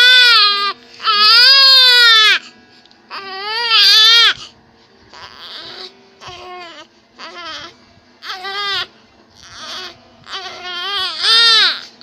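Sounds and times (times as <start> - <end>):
infant crying: 0.0 - 2.5, 3.1 - 4.4, 5.1 - 12.0.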